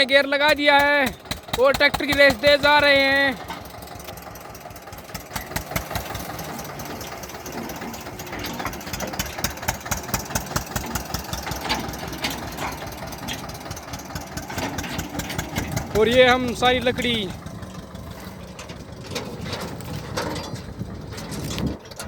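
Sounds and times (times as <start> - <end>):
tractor diesel engine chugging: 0.0 - 22.0.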